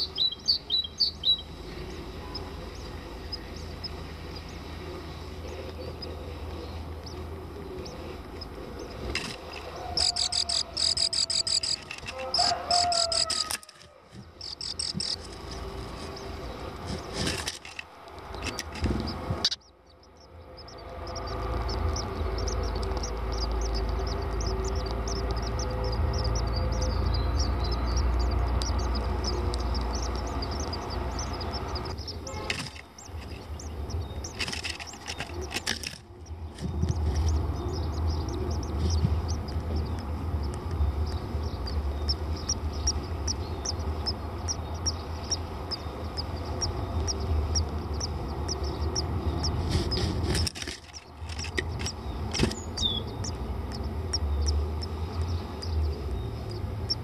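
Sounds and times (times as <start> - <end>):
nestlings begging chirps: 0.0 - 57.0.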